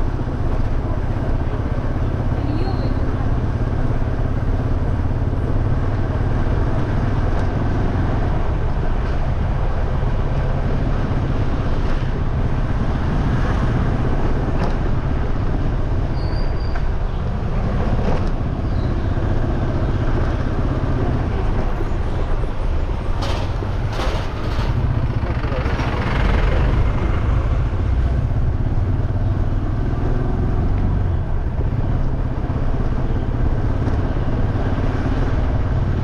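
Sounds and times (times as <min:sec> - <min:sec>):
motorcycle engine: 0:00.0 - 0:36.0
road noise: 0:00.0 - 0:36.0.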